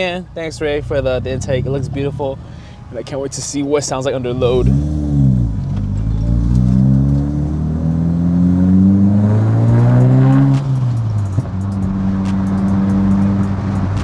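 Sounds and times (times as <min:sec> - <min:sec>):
car engine accelerating: 0:00.5 - 0:02.6, 0:04.2 - 0:14.0.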